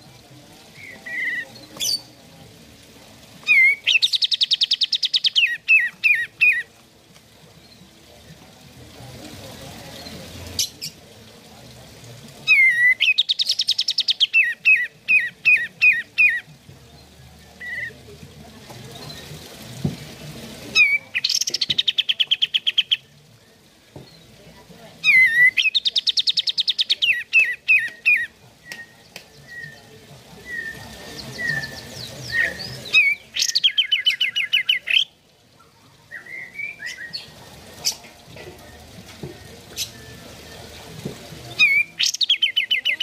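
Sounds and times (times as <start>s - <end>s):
bird singing with chattering trill: 0.0s - 2.5s, 3.4s - 6.8s, 7.5s - 11.1s, 12.4s - 19.6s, 20.7s - 24.4s, 25.0s - 43.0s.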